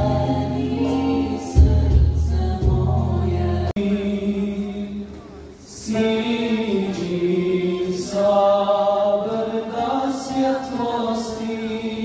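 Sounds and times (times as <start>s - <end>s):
men singing a devotional song: 0.0s - 5.0s, 5.8s - 12.0s.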